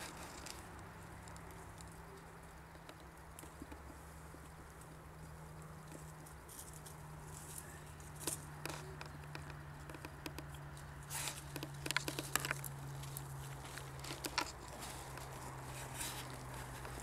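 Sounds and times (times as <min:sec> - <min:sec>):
dry brambles crackling: 0:00.0 - 0:17.0.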